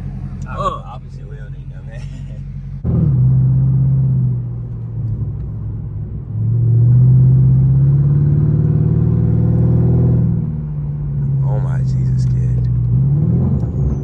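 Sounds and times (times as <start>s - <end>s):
car exhaust accelerating hard: 0.0s - 14.0s.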